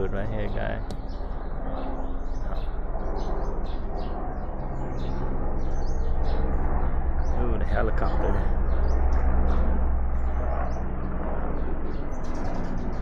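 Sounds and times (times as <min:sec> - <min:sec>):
birds chirping: 0:00.0 - 0:13.0
helicopter drone: 0:00.0 - 0:13.0.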